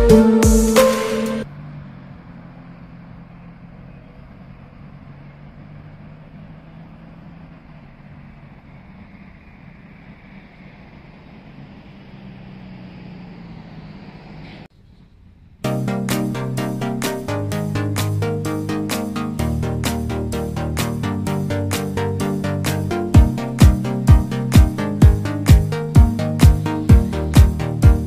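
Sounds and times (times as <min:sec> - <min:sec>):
engine running with low hum: 0:01.1 - 0:28.0.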